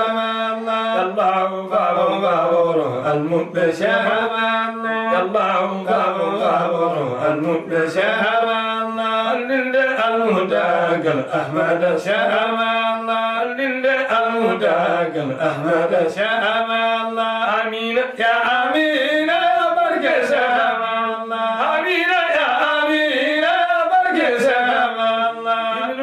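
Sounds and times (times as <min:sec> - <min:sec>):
men chanting devotional song: 0:00.0 - 0:26.0.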